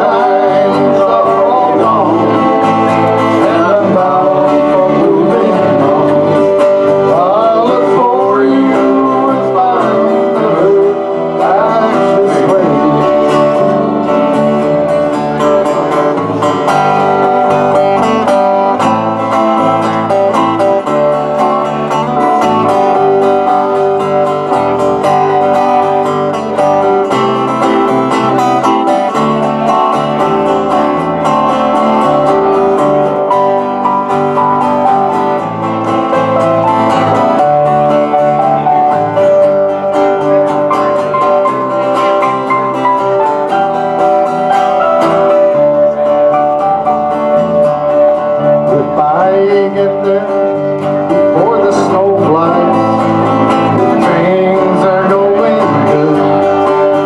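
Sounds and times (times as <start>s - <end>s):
acoustic folk group playing: 0.0s - 57.0s
acoustic guitar strumming: 0.0s - 57.0s.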